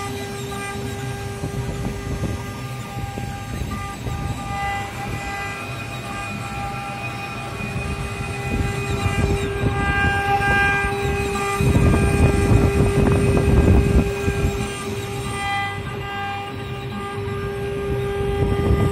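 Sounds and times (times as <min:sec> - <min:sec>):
rough low rumble of cutting: 0:00.0 - 0:18.9
router spindle whining: 0:00.0 - 0:18.9.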